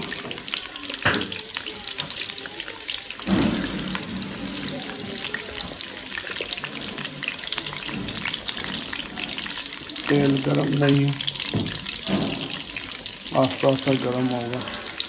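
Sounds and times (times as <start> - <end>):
fries sizzling in oil: 0.0 - 15.0
wire skimmer stirring fries: 0.0 - 15.0.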